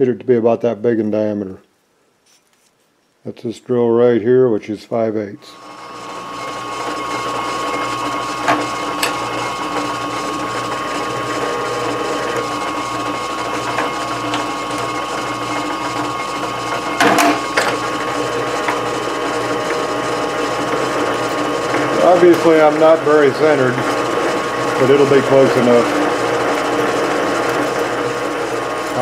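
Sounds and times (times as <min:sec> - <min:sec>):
lathe whirring and whining: 0:05.5 - 0:29.0.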